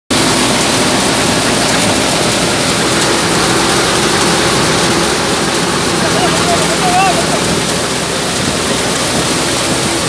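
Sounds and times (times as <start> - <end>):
thresher rushing noise: 0.1 - 10.0.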